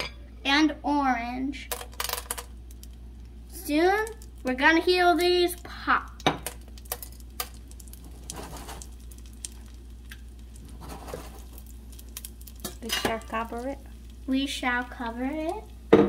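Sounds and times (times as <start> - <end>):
butter sizzling in a pot: 1.9 - 16.0.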